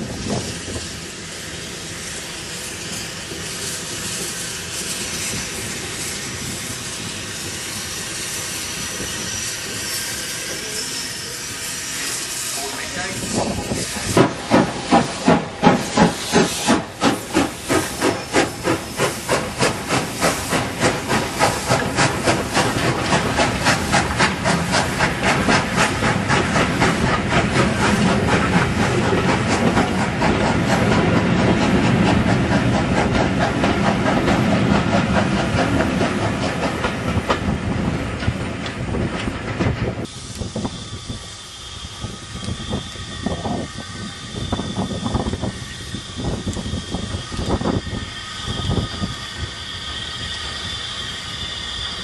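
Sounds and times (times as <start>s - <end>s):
steam locomotive chuffing: 0.0s - 52.0s.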